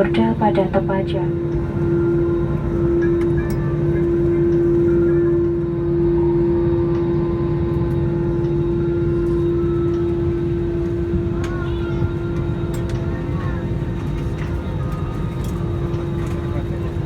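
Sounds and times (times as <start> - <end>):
aircraft cabin low rumble: 0.0 - 17.0
jet engines idling: 0.0 - 17.0.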